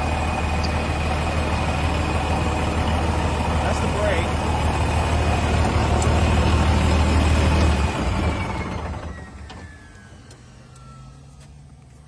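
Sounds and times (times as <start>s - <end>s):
bulldozer engine running: 0.0s - 12.0s.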